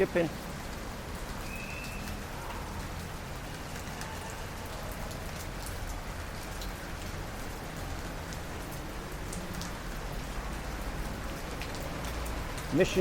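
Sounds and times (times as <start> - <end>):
rain on a car: 0.0 - 13.0
road and engine rumble: 0.0 - 13.0.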